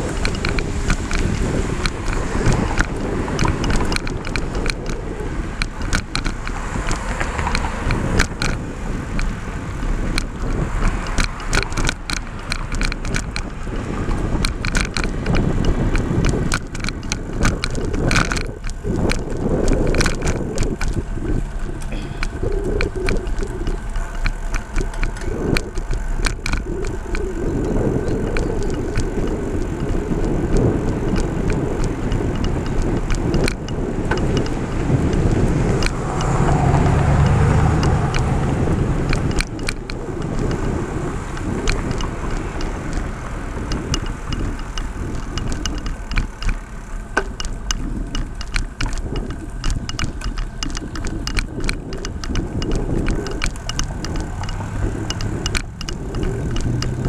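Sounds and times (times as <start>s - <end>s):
short rattling clicks: 0.0s - 9.4s, 10.0s - 57.0s
road noise: 0.0s - 57.0s
vehicle passing: 0.0s - 57.0s
wind buffeting microphone: 0.0s - 57.0s.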